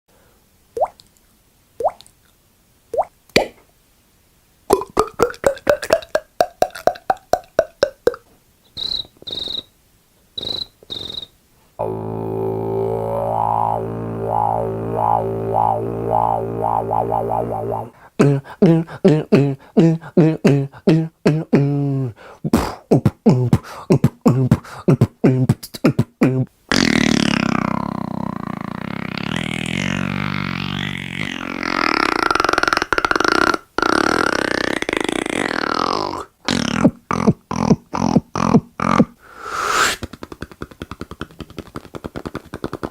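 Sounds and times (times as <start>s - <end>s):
man making mouth sound effects: 4.7s - 9.6s, 10.4s - 42.9s.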